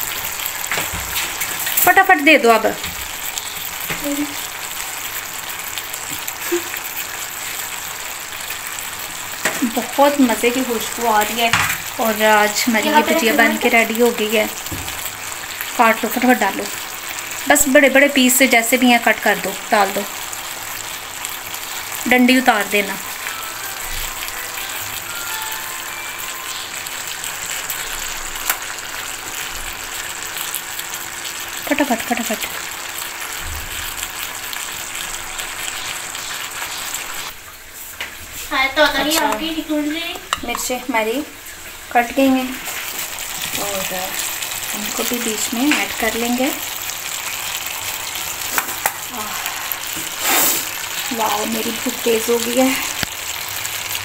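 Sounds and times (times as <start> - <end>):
potatoes sizzling in a pan: 0.0 - 54.0.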